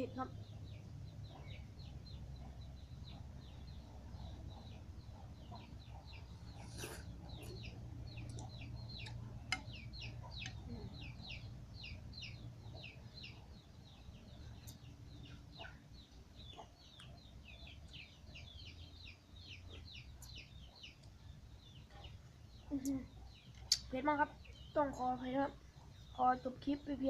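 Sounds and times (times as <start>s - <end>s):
chicks cheeping: 0.2s - 27.0s.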